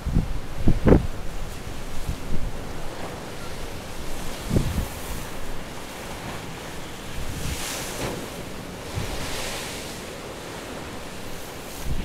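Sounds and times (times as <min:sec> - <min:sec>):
wind rumbling on microphone: 0:00.0 - 0:12.0
waves breaking against a wall: 0:00.1 - 0:12.0.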